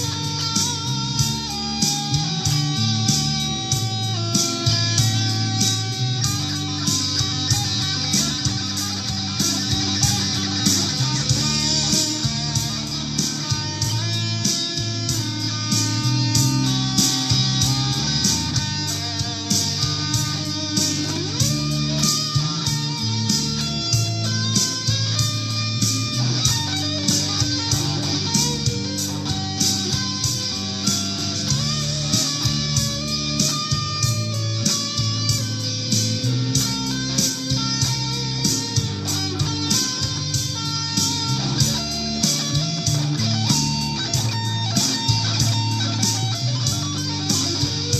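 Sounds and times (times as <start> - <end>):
backing track drums and bass: 0.0 - 47.9
electric guitar melody: 0.0 - 47.9.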